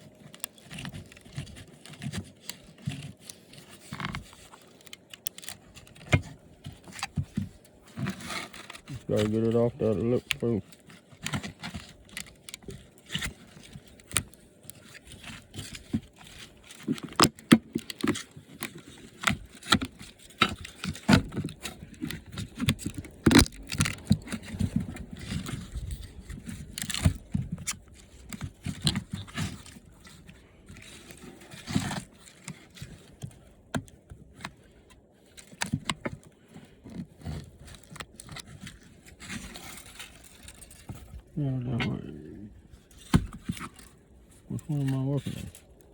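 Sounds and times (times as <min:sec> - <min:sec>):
plastic and metal parts clicking: 0:00.0 - 0:45.9.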